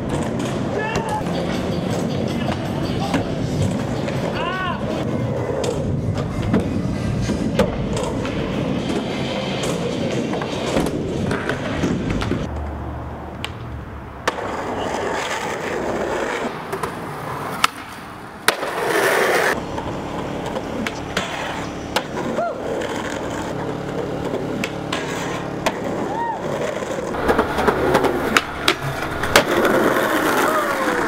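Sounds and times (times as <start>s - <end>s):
skateboards clacking: 0.0s - 12.7s, 13.3s - 31.0s
skateboard wheels rolling on concrete: 0.0s - 31.0s.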